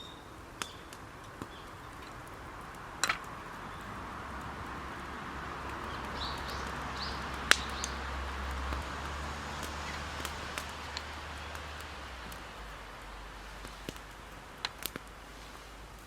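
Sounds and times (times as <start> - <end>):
campfire crackling and popping: 0.0 - 16.0
steady hiss: 0.0 - 16.0.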